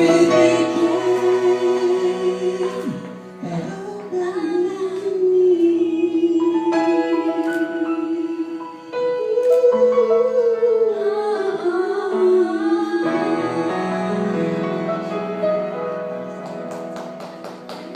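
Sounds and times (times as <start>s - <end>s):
woman singing slow melody: 0.0s - 14.9s.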